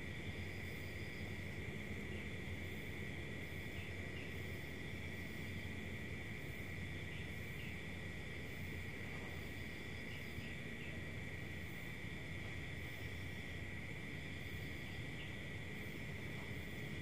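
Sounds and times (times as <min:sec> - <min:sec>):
crickets trilling: 0:00.0 - 0:17.0
low background hum: 0:00.0 - 0:17.0.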